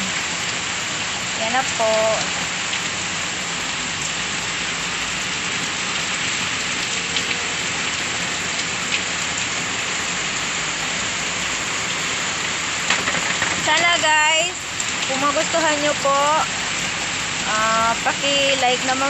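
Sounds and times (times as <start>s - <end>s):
rain-like hiss: 0.0s - 19.0s.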